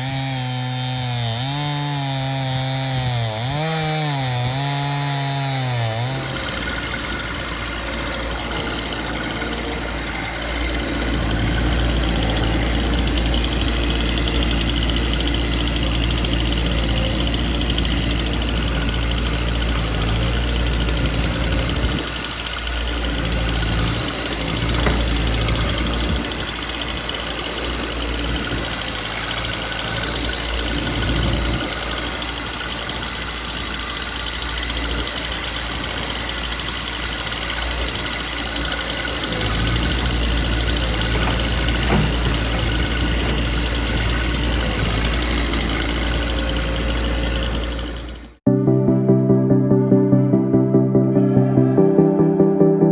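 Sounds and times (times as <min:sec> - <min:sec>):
chainsaw cutting a log: 0:00.0 - 0:48.4.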